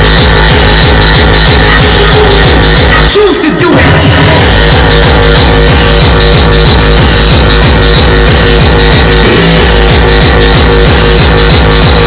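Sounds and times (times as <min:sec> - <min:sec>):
distorted kick drums: 0:00.0 - 0:12.0.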